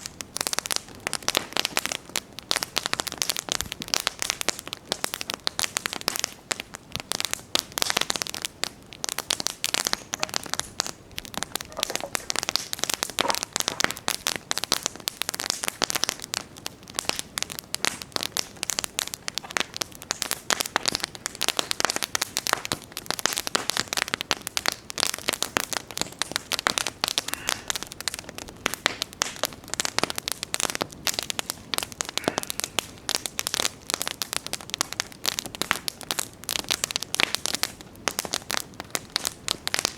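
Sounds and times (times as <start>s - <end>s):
campfire crackling: 0.0s - 39.9s
fire popping: 0.0s - 39.9s.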